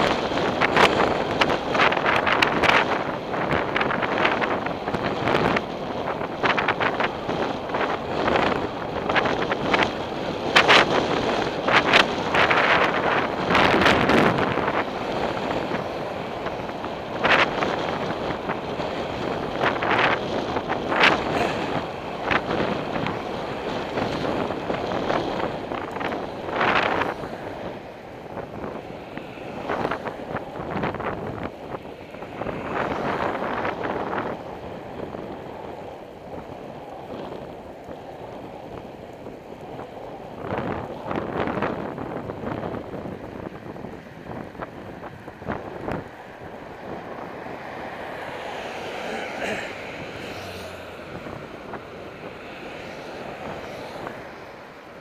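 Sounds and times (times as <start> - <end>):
passing vehicles: 0.0 - 55.0
road noise: 0.0 - 55.0
wind buffeting microphone: 0.0 - 55.0.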